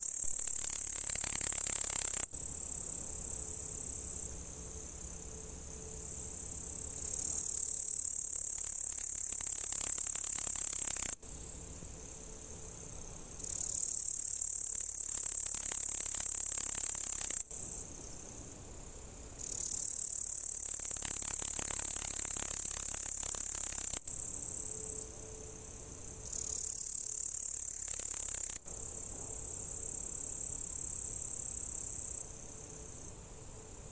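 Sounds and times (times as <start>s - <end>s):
bush-cricket buzzing trill: 0.0s - 33.9s.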